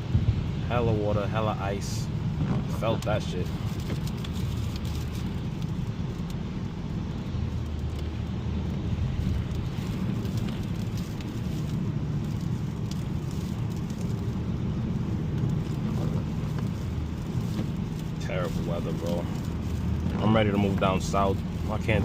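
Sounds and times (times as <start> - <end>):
tyre and drivetrain rumble: 0.0 - 22.0.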